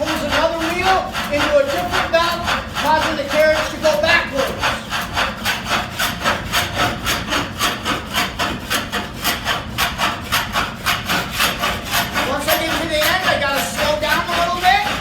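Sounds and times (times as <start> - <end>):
saw rasping through wood: 0.0 - 15.0.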